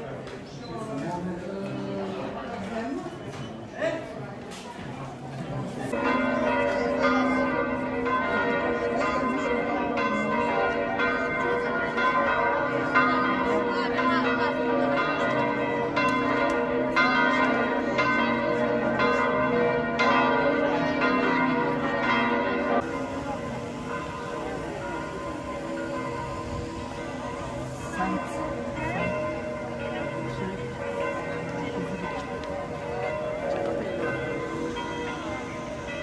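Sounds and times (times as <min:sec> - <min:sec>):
church bells pealing: 0:05.8 - 0:36.0.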